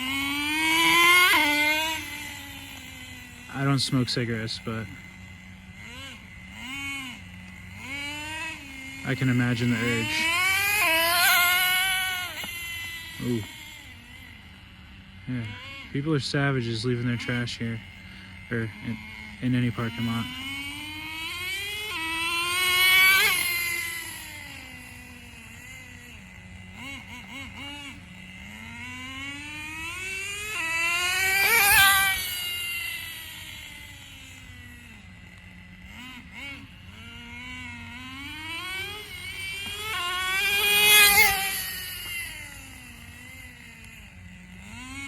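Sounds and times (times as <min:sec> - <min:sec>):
model car engine whining: 0:00.0 - 0:45.0.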